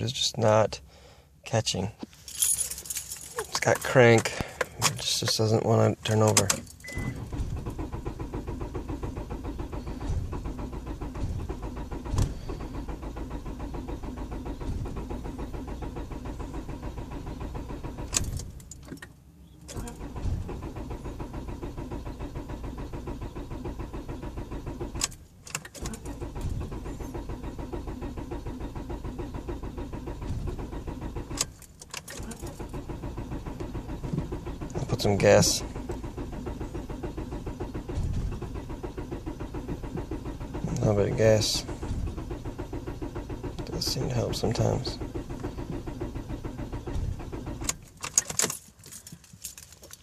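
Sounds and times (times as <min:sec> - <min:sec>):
engine cranking by starter: 0:02.1 - 0:50.0.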